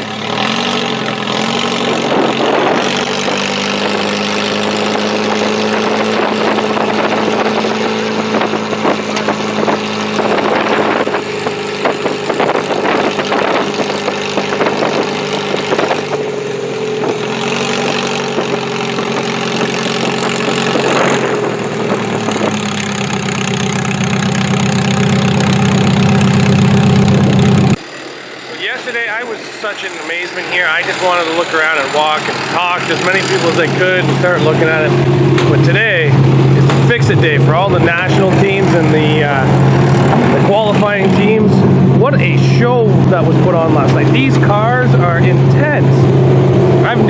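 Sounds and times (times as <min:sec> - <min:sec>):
car engines running hard: 0:00.0 - 0:47.0
deep engine drone: 0:00.0 - 0:47.0.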